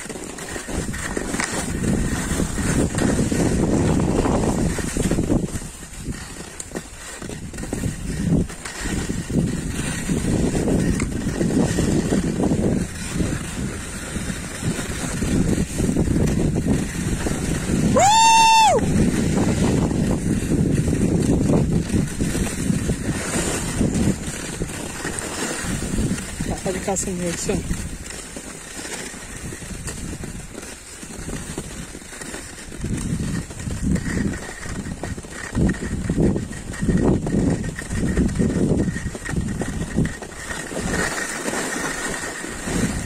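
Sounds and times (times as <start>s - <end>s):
skis sliding over snow: 0.0s - 43.0s
wind buffeting microphone: 0.0s - 43.0s.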